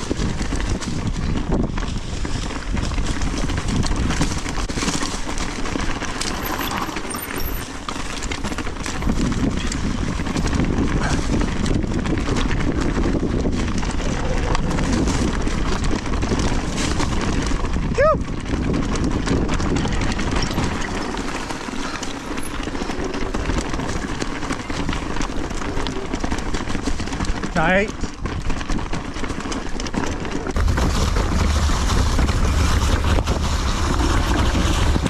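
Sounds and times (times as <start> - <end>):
bike knocks and rattles: 0.0 - 35.0
tyres rumbling over dirt: 0.0 - 35.0.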